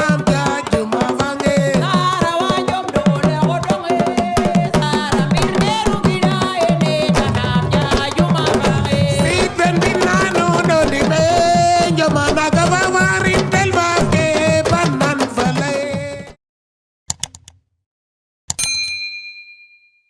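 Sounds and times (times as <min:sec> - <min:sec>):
fast hand drum rhythm: 0:00.0 - 0:16.4.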